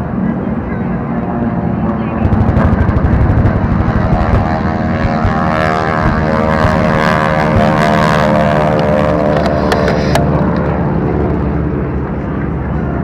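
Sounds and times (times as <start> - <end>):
propeller airplanes flying past: 0.0 - 13.0.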